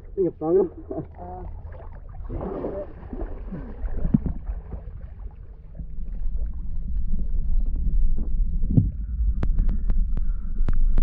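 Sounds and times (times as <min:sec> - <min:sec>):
wind buffeting microphone: 0:02.1 - 0:11.0.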